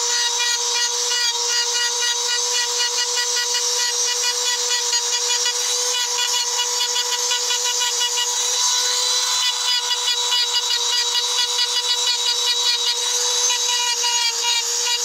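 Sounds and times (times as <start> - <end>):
rotary engraving tool grinding stone: 0.0 - 15.0.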